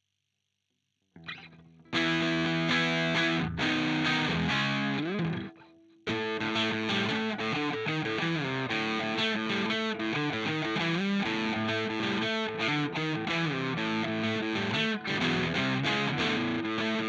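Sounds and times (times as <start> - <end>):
distorted electric guitar chords: 1.2 - 17.0.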